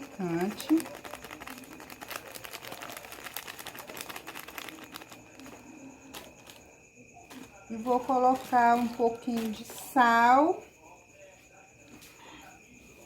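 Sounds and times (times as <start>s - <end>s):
rice and beans crackling in pot: 0.0s - 10.6s.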